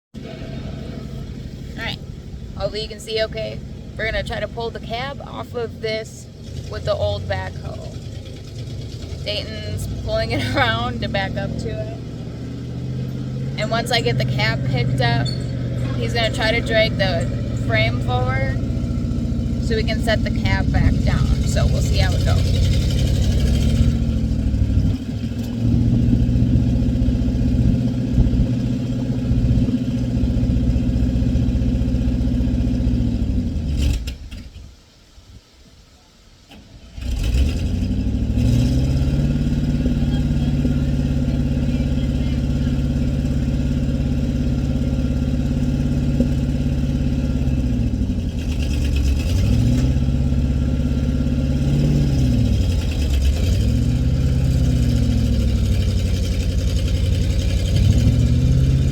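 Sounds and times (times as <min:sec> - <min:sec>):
heavy engine revving: 0:00.2 - 0:34.4, 0:36.8 - 0:58.9.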